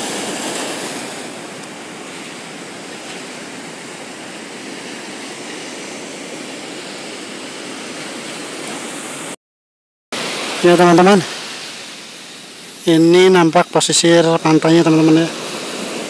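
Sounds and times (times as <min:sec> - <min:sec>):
waves breaking against seawall: 0:00.0 - 0:09.3, 0:10.2 - 0:13.9, 0:14.5 - 0:16.0.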